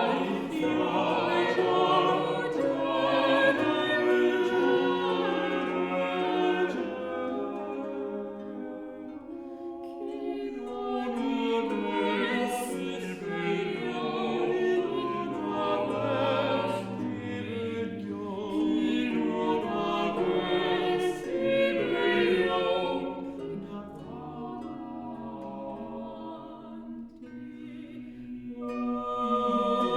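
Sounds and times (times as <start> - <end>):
vocal ensemble singing a cappella: 0.0 - 29.9.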